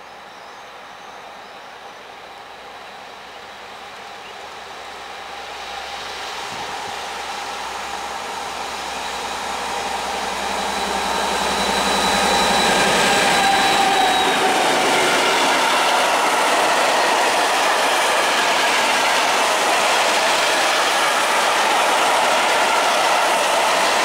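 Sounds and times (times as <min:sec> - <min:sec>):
diesel locomotive engine working hard: 0:00.0 - 0:24.0.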